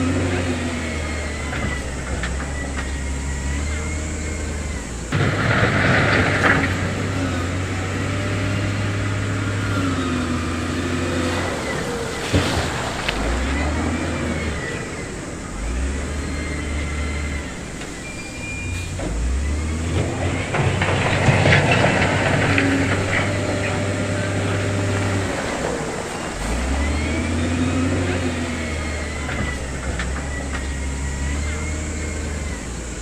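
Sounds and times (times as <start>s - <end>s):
diesel engine revving: 0.0s - 33.0s
rumbling and clattering: 0.0s - 33.0s.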